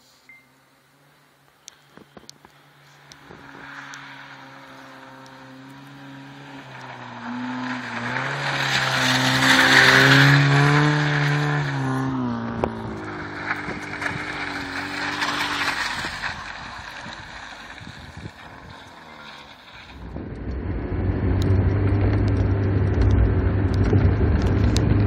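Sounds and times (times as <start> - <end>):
car engine revving: 2.4 - 25.0.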